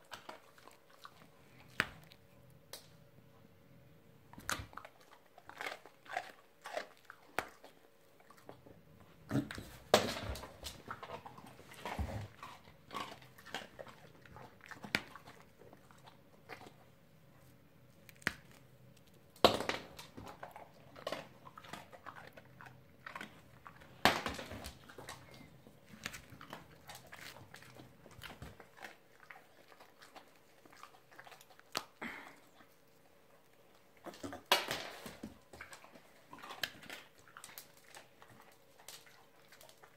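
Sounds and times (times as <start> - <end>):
dog crunching biscuits: 0.0 - 3.0, 4.3 - 39.9.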